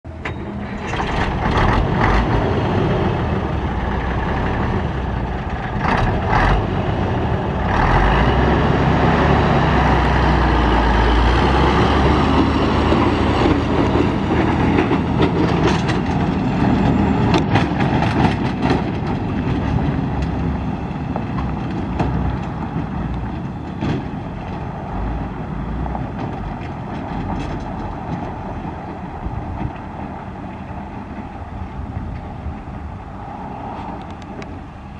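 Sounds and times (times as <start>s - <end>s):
truck diesel engine driving off: 0.1s - 34.9s.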